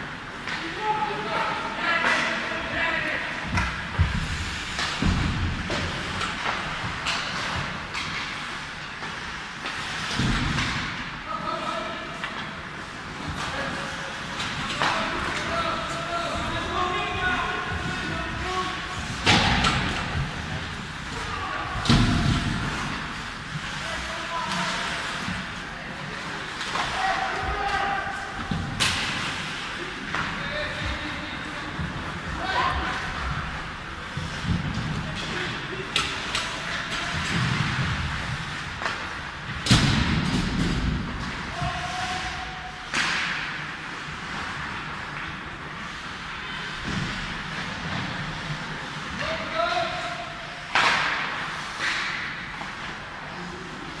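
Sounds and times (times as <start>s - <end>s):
rink boards banging: 0.4s - 46.0s, 46.6s - 53.1s.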